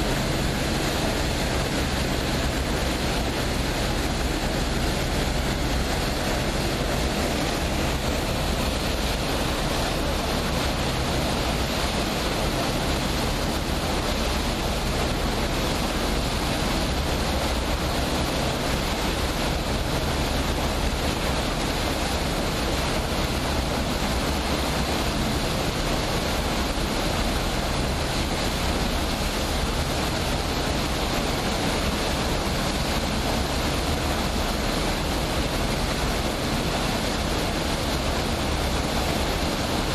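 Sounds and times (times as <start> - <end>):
boat engine drone: 0.0 - 39.9
rushing water: 0.0 - 39.9
wind: 0.0 - 39.9.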